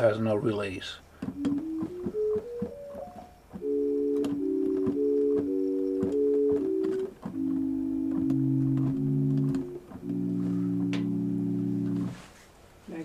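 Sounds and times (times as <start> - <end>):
synthesized organ-like chords: 0.0 - 12.2.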